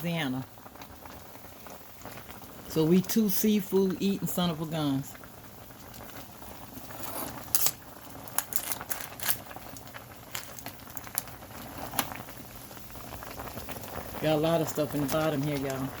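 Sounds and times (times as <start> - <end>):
pot bubbling at a boil: 0.0 - 16.0.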